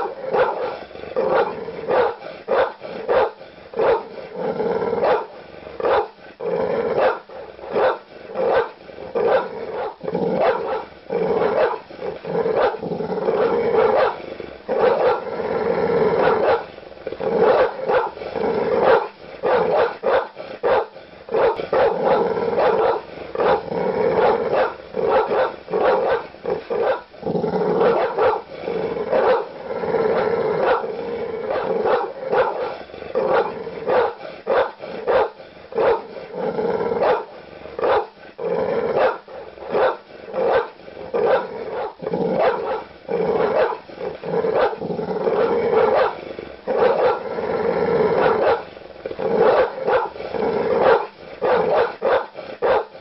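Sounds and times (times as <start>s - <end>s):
large dog barking: 0.0s - 4.3s, 4.9s - 15.5s, 16.1s - 38.2s, 38.8s - 47.4s, 48.0s - 53.0s.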